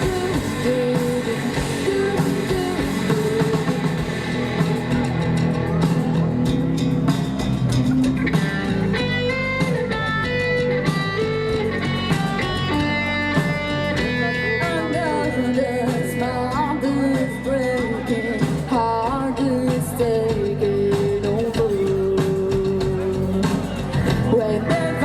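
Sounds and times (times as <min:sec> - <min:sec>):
live band music: 0:00.0 - 0:25.0.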